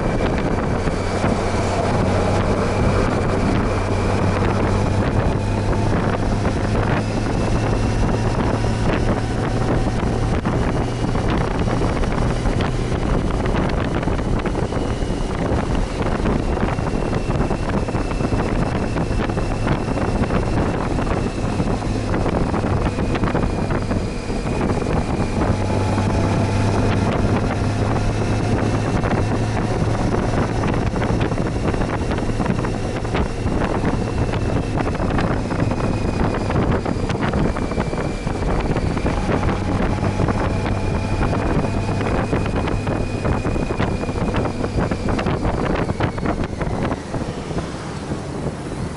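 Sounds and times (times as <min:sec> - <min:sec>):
faint drifting tones: 0:00.0 - 0:48.9
motorcycle engine hum: 0:00.0 - 0:48.9
wind rush on microphone: 0:00.0 - 0:48.9.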